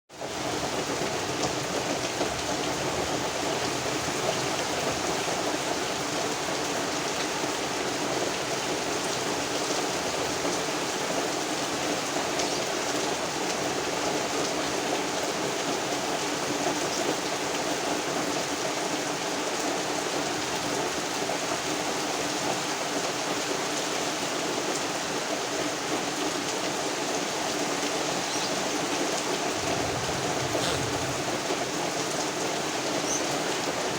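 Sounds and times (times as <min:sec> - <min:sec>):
wind: 0:00.1 - 0:33.9
heavy rain falling: 0:00.2 - 0:33.9.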